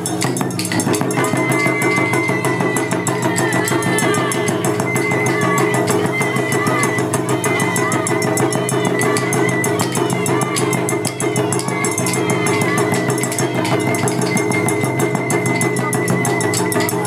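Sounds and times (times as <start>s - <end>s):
high flute melody: 0.0s - 17.0s
taiko drum strikes: 0.0s - 17.0s.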